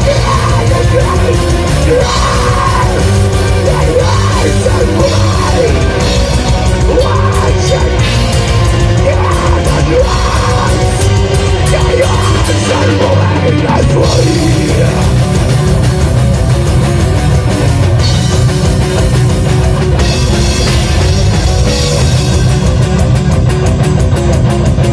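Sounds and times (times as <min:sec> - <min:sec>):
distorted guitars: 0:00.0 - 0:24.9
metal band playing: 0:00.0 - 0:24.9.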